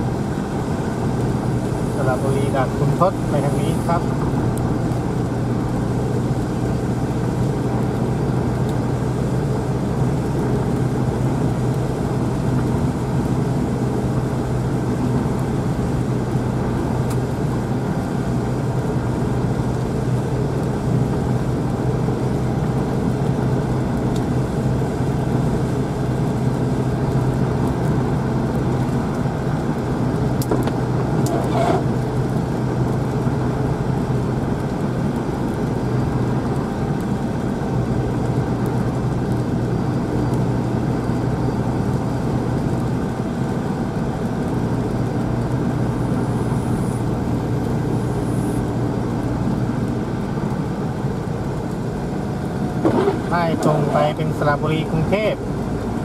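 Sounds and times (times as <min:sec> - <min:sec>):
car cabin road and engine drone: 0:00.0 - 0:56.0.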